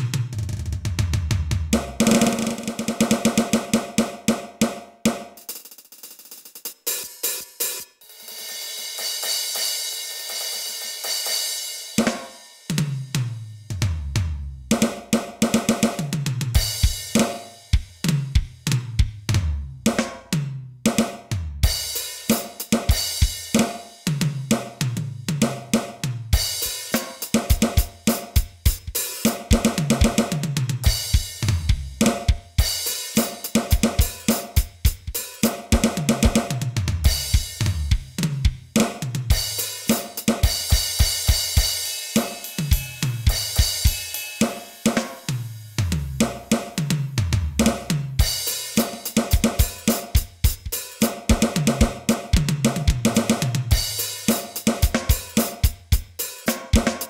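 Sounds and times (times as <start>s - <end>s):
electronic drum beat: 0.0s - 8.0s, 8.7s - 57.0s.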